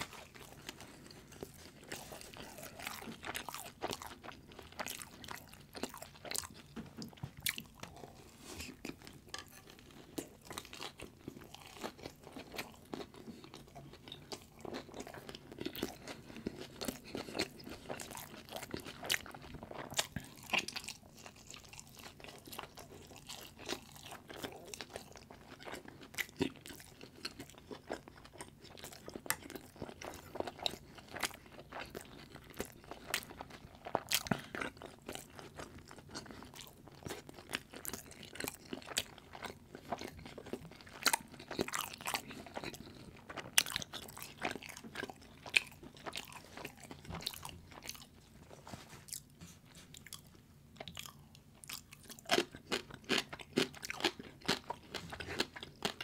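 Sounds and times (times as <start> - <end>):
close chewing with crunches: 0.0 - 56.0.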